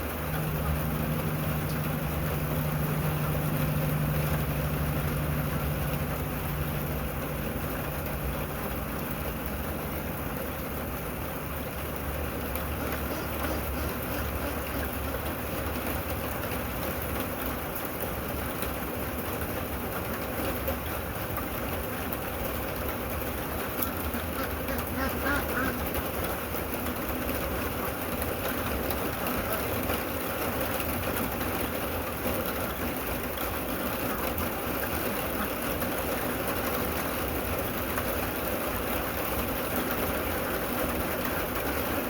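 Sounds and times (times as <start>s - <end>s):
steady rain hissing: 0.0s - 42.0s.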